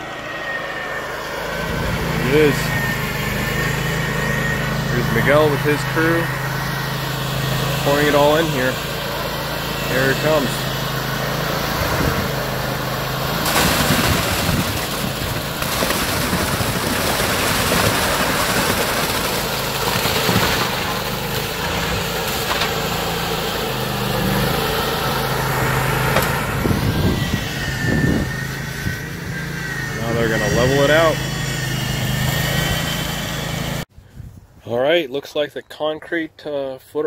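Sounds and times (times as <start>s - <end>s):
concrete buggy engine running: 0.0s - 33.8s.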